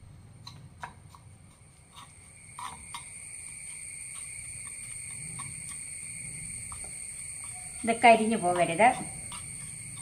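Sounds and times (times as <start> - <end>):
spoon scraping a pan: 0.5 - 5.8, 6.7 - 10.0.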